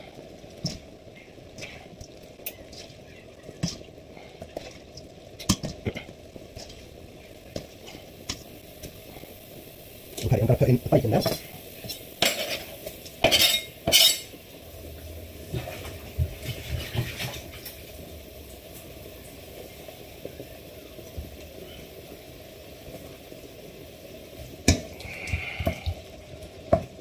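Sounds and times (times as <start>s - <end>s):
bacon sizzling in pan: 0.0s - 27.0s.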